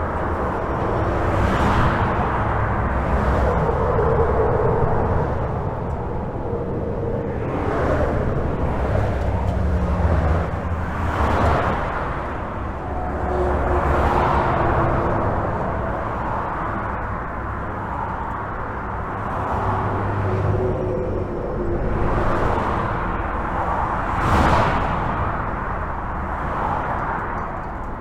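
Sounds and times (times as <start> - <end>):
traffic rumble: 0.0 - 28.0
vehicles passing: 0.0 - 28.0.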